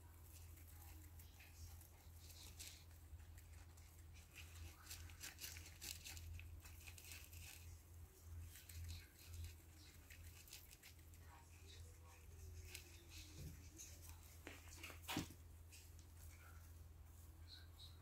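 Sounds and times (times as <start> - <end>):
hamster nibbling: 0.0 - 18.0.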